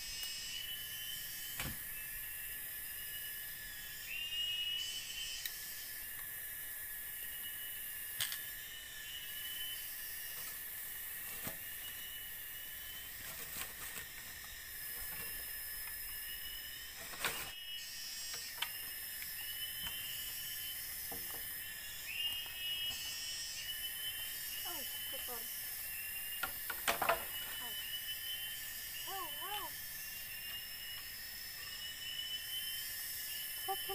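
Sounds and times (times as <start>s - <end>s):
insect chorus: 0.0s - 33.9s.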